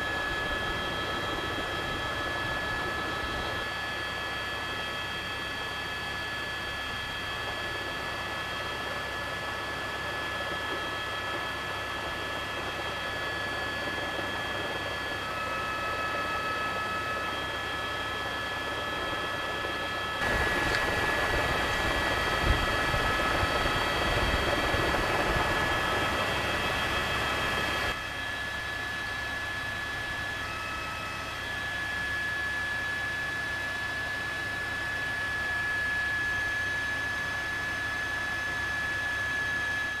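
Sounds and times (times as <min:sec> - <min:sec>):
helicopter in flight: 0:00.0 - 0:40.0
high-pitched whine: 0:00.0 - 0:40.0.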